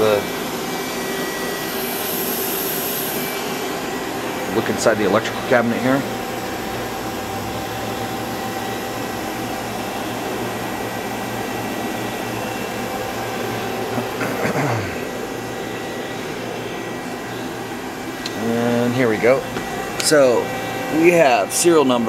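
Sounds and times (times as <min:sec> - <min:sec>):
faint high whine: 0:00.0 - 0:22.0
falling whine: 0:00.0 - 0:22.0
lathe hum and fan noise: 0:00.0 - 0:22.0.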